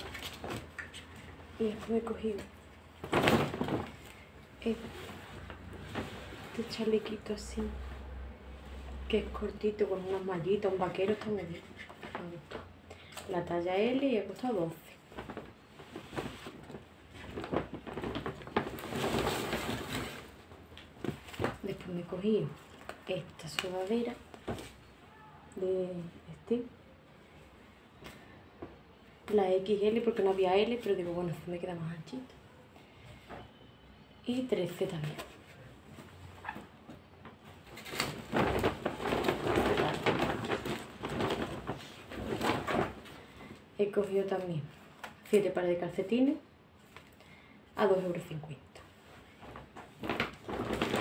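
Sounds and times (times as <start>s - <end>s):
fabric rustling: 0.0s - 47.2s, 47.8s - 51.0s.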